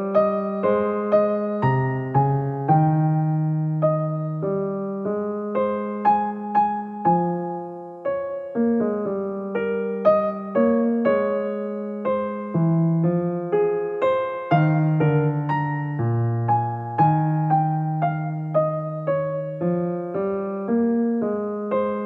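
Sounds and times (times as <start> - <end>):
gentle keyboard music: 0.0 - 22.0.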